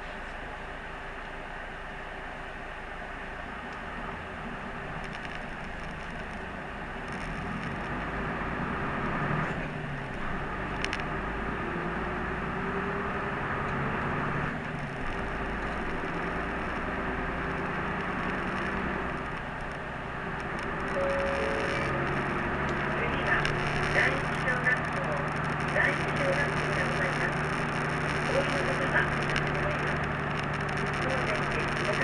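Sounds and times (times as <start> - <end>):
bus engine hum: 0.0 - 32.0.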